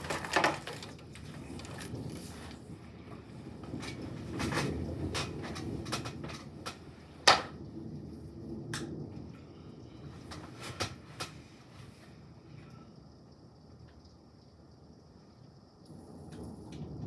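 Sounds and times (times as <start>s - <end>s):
distant thunder rumble: 0.0s - 13.6s, 15.0s - 17.0s.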